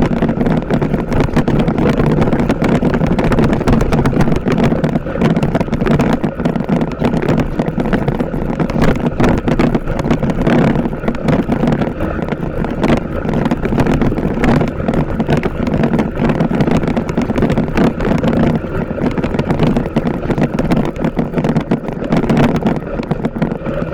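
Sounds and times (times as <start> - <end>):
motorcycle engine running: 0.0 - 23.9
wind buffeting microphone: 0.0 - 23.9.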